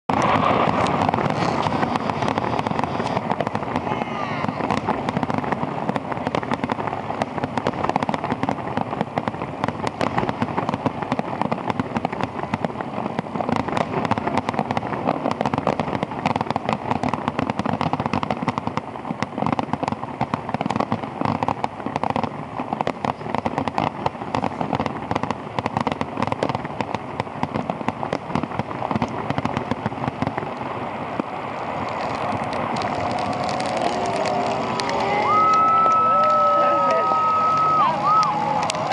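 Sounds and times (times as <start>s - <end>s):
fireworks bursting: 0.0s - 38.9s.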